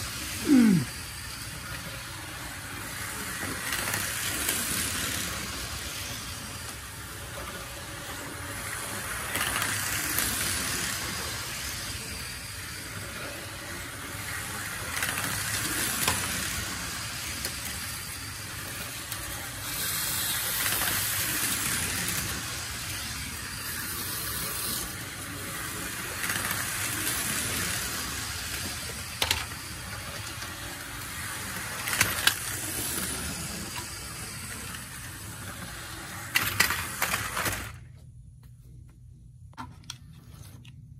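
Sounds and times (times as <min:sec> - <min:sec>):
toy train motors whirring: 0:00.0 - 0:38.0.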